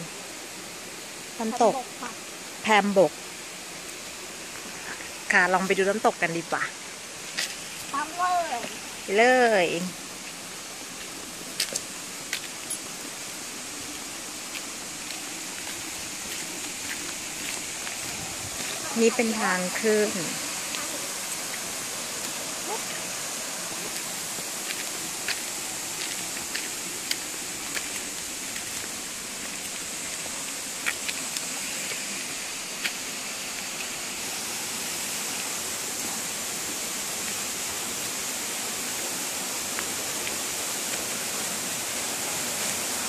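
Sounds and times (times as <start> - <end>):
waterfall and stream rushing: 0.0 - 43.0.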